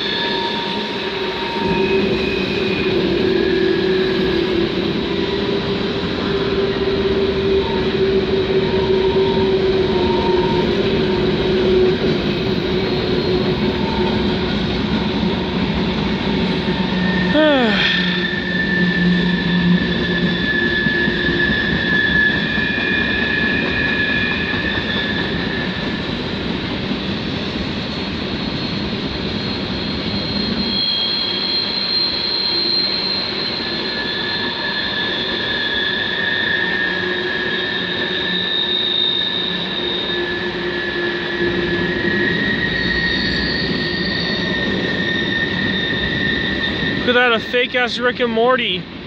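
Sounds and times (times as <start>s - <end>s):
freight train rolling past: 0.0s - 17.3s, 17.9s - 49.0s
high-pitched wheel squeals: 0.0s - 26.3s, 28.3s - 47.6s.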